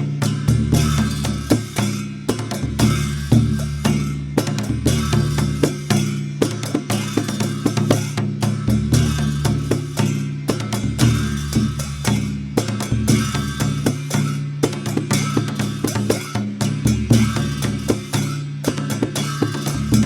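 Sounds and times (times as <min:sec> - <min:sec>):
barrel drum fast rhythm: 0:00.0 - 0:20.0
cymbals clashing: 0:00.0 - 0:20.0.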